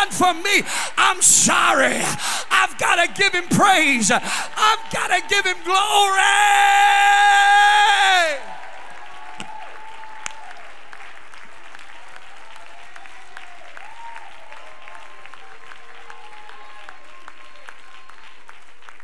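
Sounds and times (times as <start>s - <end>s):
congregation clapping: 0.0s - 19.0s.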